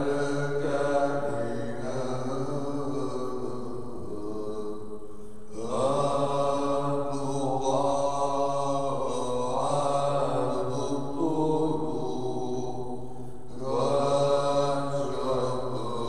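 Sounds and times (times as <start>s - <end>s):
liturgical chant: 0.0s - 16.0s.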